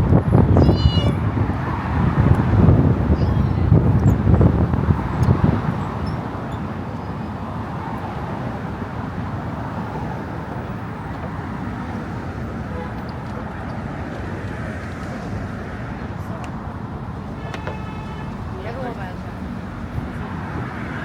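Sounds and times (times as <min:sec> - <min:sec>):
traffic drone: 0:00.0 - 0:21.0.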